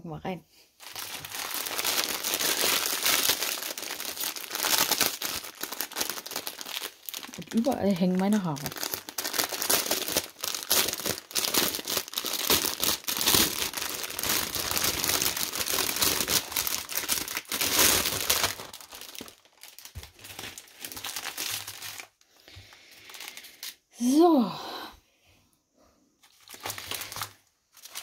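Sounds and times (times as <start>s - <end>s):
plastic crinkling and rustling: 0.8s - 23.8s, 26.2s - 28.0s.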